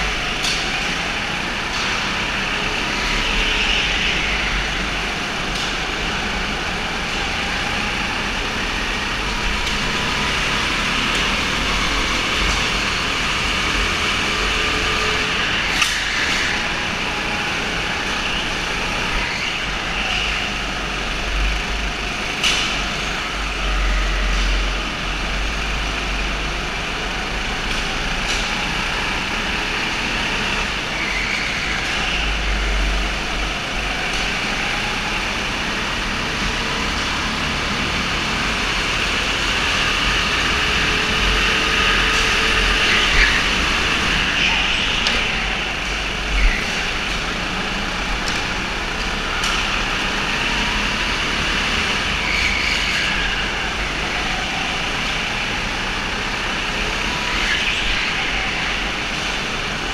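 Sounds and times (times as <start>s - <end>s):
go-kart engines: 0.0s - 59.9s.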